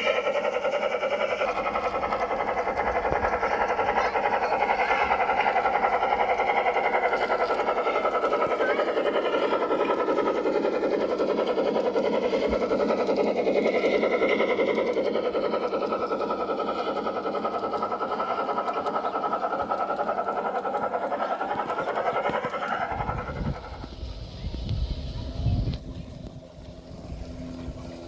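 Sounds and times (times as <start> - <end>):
model train motor whine: 0.0 - 28.0
wheels rattling on track: 0.0 - 28.0.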